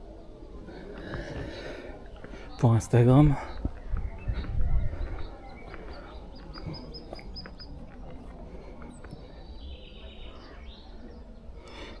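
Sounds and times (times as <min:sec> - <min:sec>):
outdoor background noise: 0:00.0 - 0:12.0
small birds chirping: 0:00.2 - 0:12.0.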